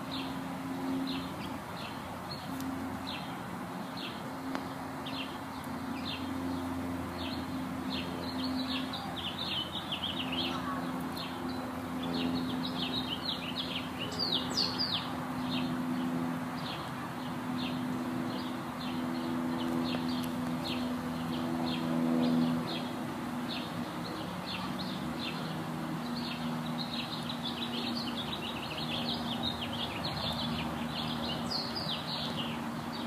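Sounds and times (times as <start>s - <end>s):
small songbirds chirping: 0.0s - 33.0s
steady low hum: 0.0s - 33.0s.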